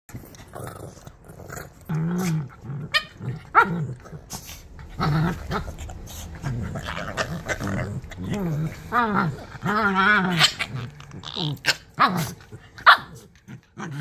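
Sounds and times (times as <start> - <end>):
puppies play growling: 0.1 - 14.0.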